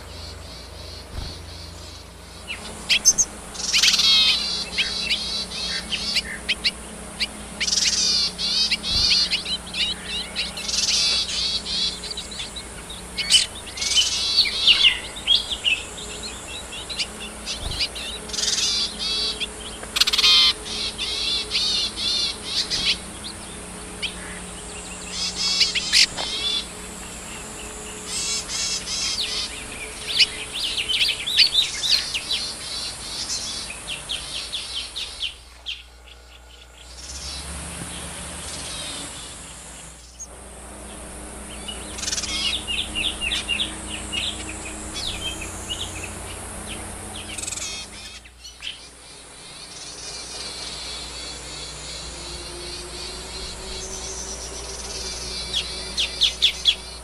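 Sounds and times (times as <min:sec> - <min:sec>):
bird twittering: 0:00.0 - 0:57.0
faint steady hum: 0:00.0 - 0:57.0.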